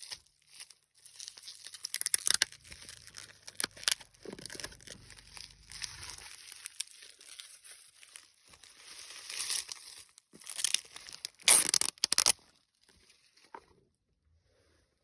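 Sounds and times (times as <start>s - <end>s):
packaging crinkling and ripping: 0.0s - 13.5s.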